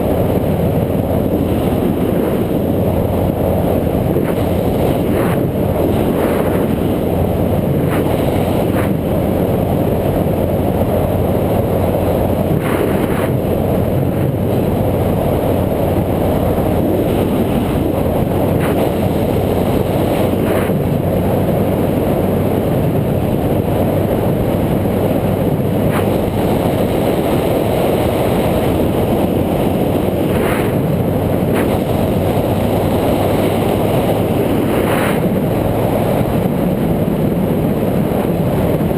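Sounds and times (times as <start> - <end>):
wind and road noise: 0.0 - 38.9.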